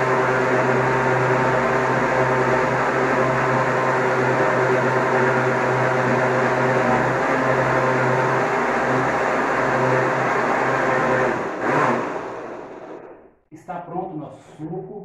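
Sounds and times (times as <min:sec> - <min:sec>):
blender motor running: 0:00.0 - 0:13.1.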